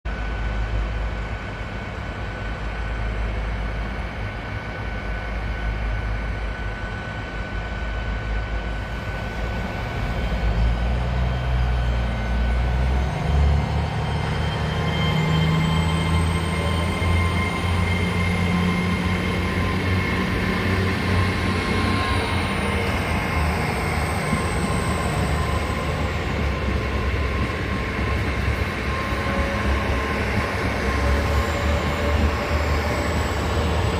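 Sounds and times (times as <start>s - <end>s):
train diesel engine drone: 0.1s - 33.9s.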